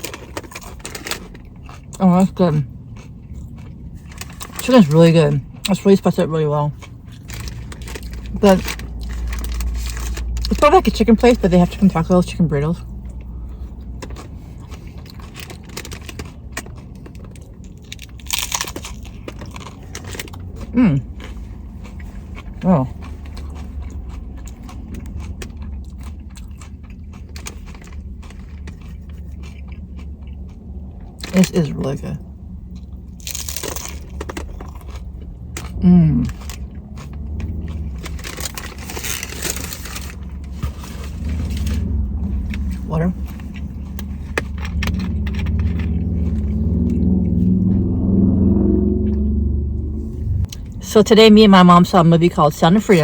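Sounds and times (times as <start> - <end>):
crunchy taco chewing: 0.0 - 49.3
steady low rumble: 0.0 - 53.0.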